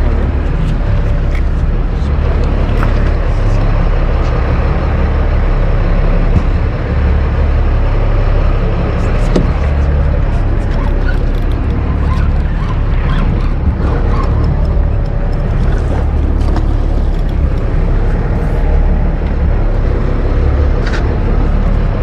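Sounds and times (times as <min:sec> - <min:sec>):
boat engine rumble: 0:00.0 - 0:22.0.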